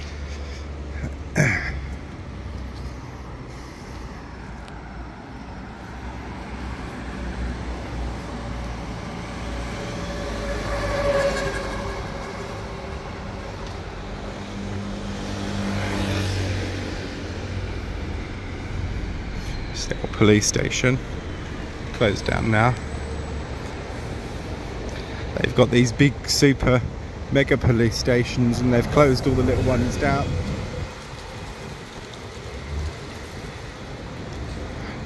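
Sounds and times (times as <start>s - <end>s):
traffic rumble: 0.0s - 35.0s
vehicles passing: 0.0s - 35.0s.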